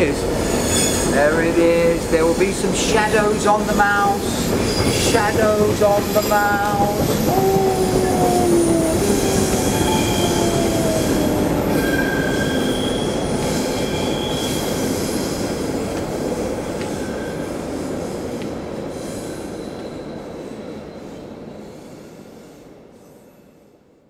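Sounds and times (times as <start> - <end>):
train wheels squealing: 0.2 - 15.6, 16.9 - 23.8.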